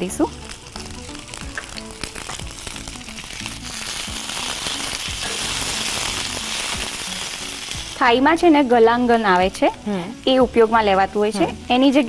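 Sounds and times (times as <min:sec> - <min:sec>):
faint background music: 0:00.0 - 0:12.0
food sizzling in a frying pan: 0:00.0 - 0:12.0.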